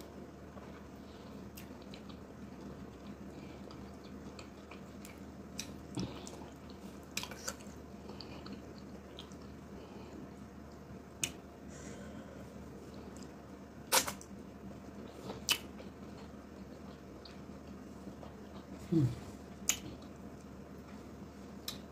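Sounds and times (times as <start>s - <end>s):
soft chewing: 0.1s - 21.9s.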